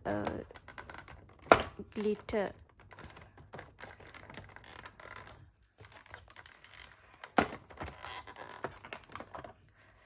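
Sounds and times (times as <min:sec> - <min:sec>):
small items clicking and tapping: 0:00.0 - 0:10.0.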